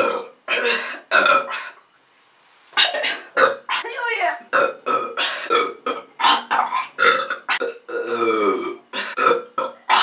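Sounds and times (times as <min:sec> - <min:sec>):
woman burping: 0:00.0 - 0:01.8, 0:02.8 - 0:03.9, 0:04.5 - 0:10.0.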